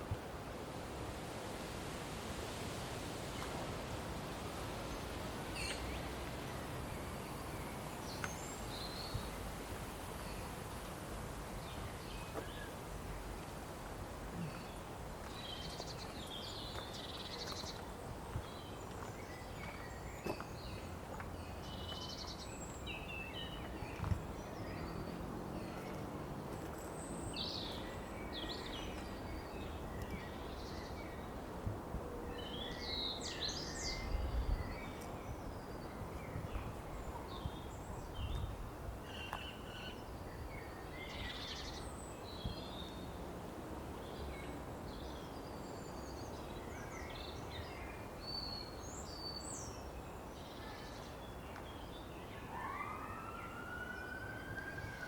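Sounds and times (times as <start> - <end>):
songbirds chirping: 2.6 - 55.0.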